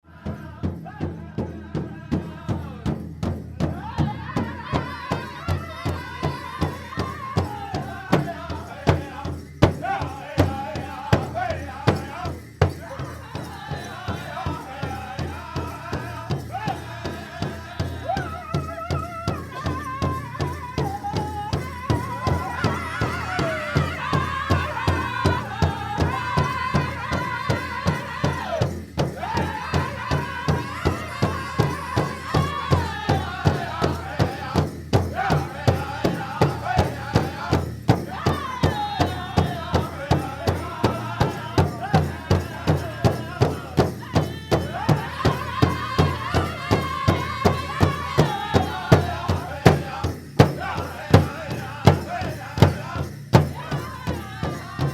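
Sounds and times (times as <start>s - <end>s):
steady drum beat: 0.0s - 54.9s.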